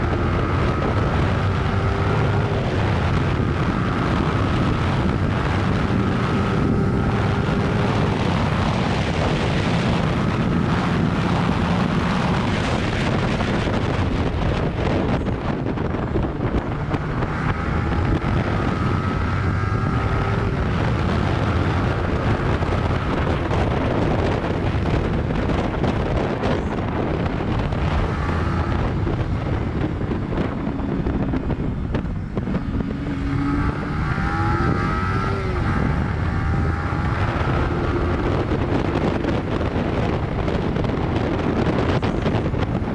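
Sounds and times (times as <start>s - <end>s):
motorcycle engine running: 0.0s - 42.9s
wind noise on microphone: 0.0s - 42.9s.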